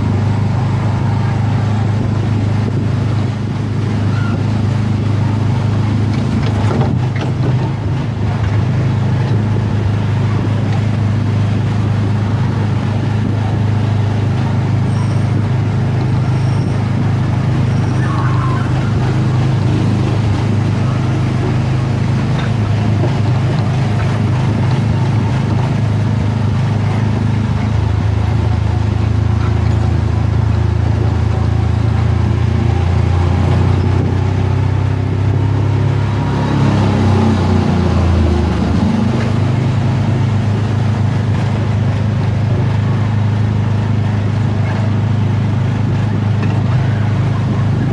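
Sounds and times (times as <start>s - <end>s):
ride car engine running: 0.0s - 47.9s.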